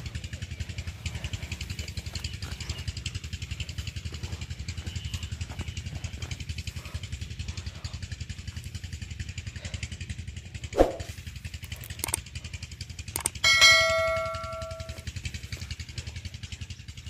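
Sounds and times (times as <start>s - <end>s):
engine running with low thudding: 0.0s - 17.0s.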